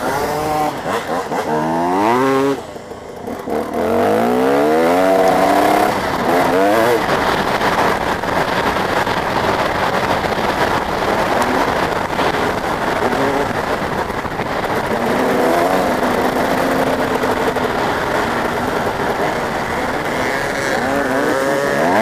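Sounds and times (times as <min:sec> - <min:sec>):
motocross bike engines revving: 0:00.0 - 0:22.0
steady wash of noise: 0:00.0 - 0:22.0.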